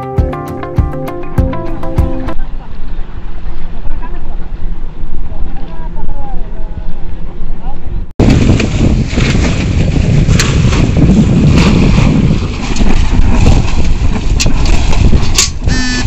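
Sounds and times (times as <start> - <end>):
wind buffeting microphone: 2.3 - 16.0.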